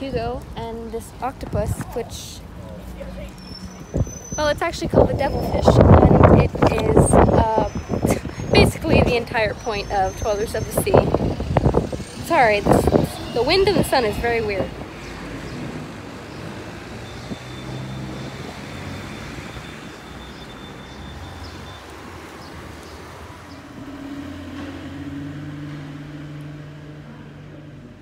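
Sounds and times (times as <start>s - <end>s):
vehicle engines humming: 0.0s - 28.0s.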